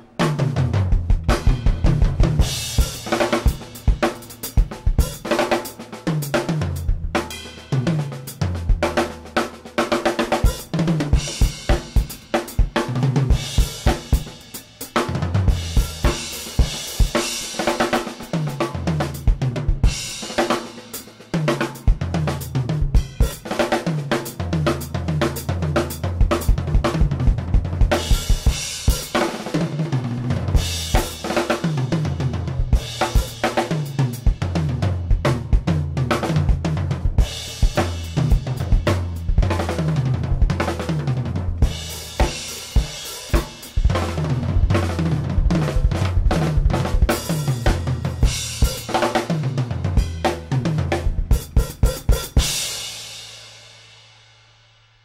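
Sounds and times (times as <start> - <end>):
drum kit playing: 0.0 - 54.6.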